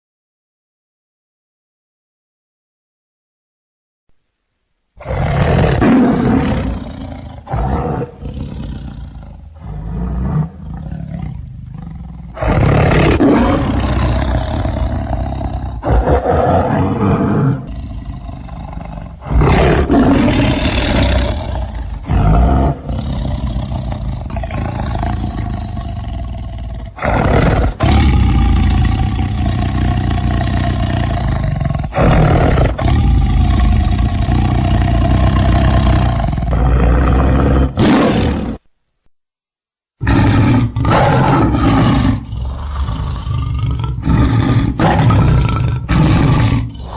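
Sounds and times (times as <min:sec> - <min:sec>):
tiger roaring: 0:05.0 - 0:38.7, 0:40.0 - 0:46.9.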